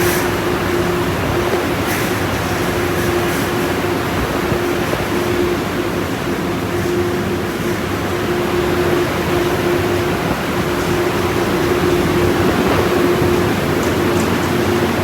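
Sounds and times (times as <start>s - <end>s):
car wash machinery rushing: 0.0s - 15.0s.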